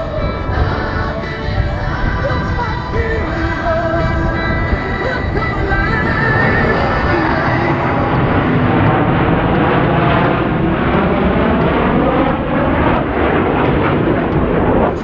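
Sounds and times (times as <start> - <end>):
jet aircraft roaring past: 0.0 - 15.0.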